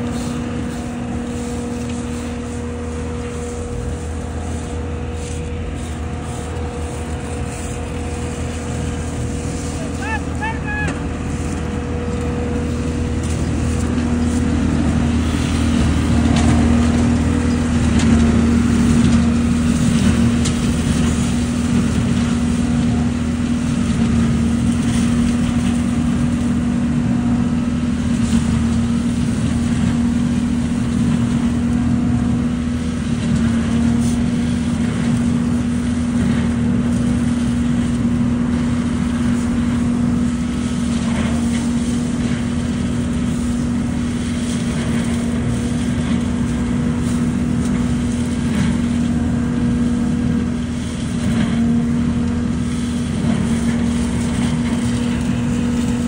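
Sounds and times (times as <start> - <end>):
dry leaves crackling: 0.0 - 56.0
leaf vacuum humming: 0.0 - 56.0.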